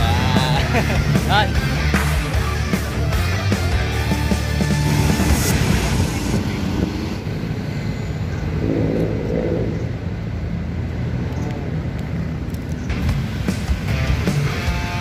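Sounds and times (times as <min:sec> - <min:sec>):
vehicles passing on street: 0:00.0 - 0:15.0.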